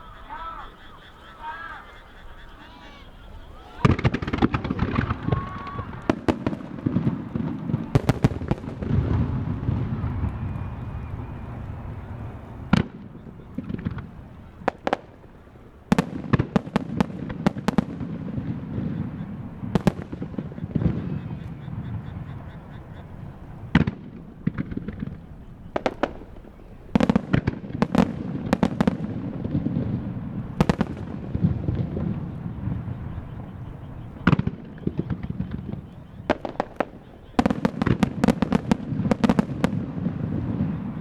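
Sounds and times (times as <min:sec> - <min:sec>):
low rumble of bursts and echoes: 0:00.0 - 0:36.5
fireworks bursting with sharp bangs: 0:00.0 - 0:41.0.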